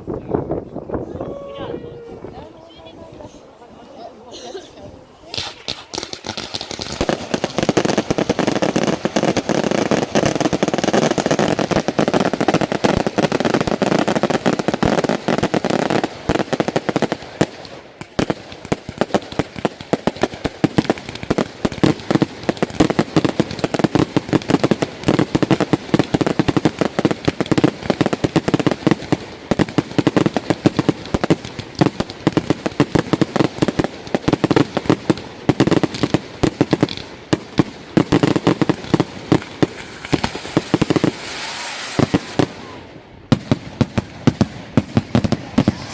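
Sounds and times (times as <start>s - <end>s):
fireworks bangs and crackles: 0.0s - 3.3s, 5.1s - 45.9s.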